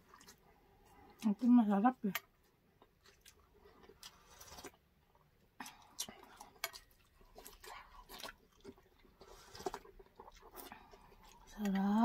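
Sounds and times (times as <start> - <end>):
people chewing and smacking: 0.0 - 12.0.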